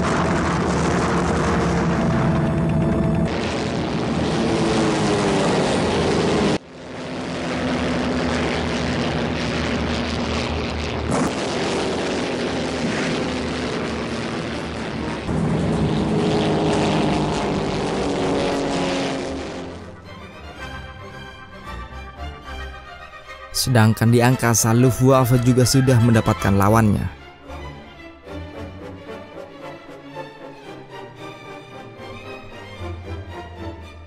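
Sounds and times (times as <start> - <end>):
propeller warplanes droning overhead: 0.0 - 34.0.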